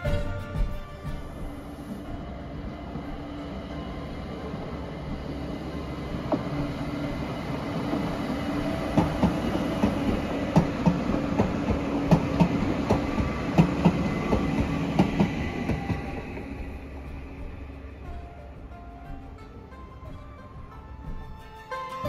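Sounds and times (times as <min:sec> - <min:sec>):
train humming on track: 0:00.0 - 0:22.0
wheels clicking over rail joints: 0:00.0 - 0:22.0.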